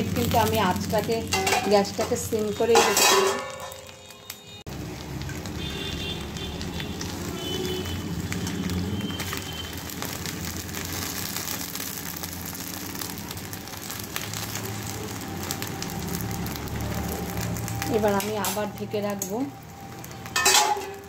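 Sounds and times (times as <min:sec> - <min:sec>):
oil sizzling and crackling: 0:00.0 - 0:21.0.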